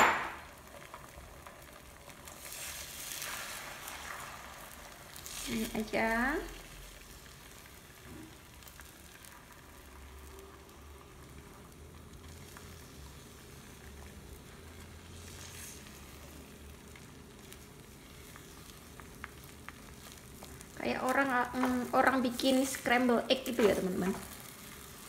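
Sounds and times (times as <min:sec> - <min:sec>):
eggs sizzling in oil: 0:00.0 - 0:25.0.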